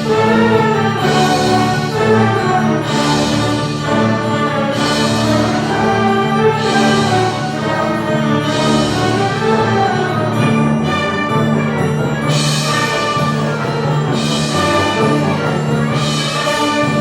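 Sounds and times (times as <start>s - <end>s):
concert band playing: 0.0s - 17.0s.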